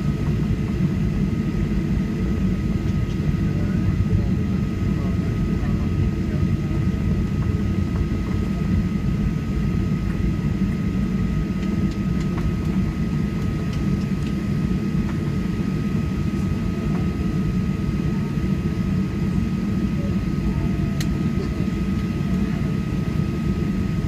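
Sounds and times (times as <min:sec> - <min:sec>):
jet engines idling: 0:00.0 - 0:24.0.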